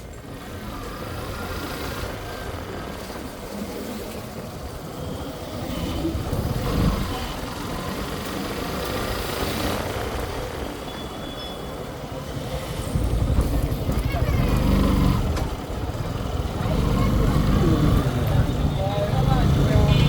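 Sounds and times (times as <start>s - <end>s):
vehicles rumbling: 0.0s - 20.0s
wind: 0.0s - 20.0s.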